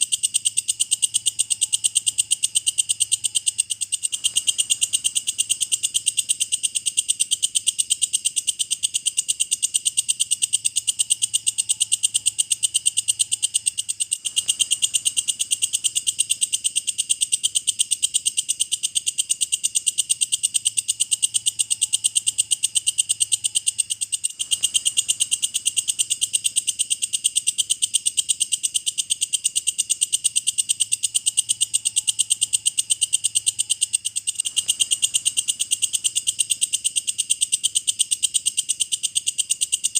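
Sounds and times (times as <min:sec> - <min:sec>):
insect buzzing trill: 0:00.0 - 0:39.9.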